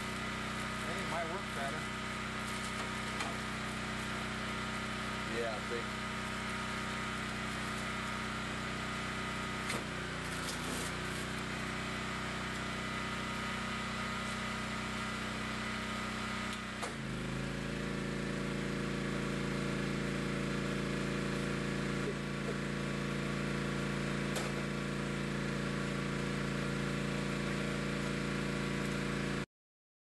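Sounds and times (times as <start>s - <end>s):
machine hum: 0.0s - 29.4s.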